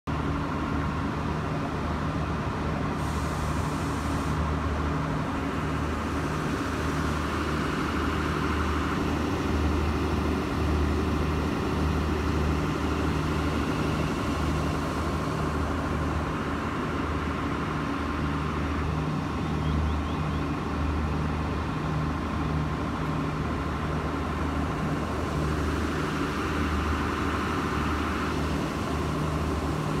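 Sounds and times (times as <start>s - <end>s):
diesel engine idling: 0.1s - 30.0s.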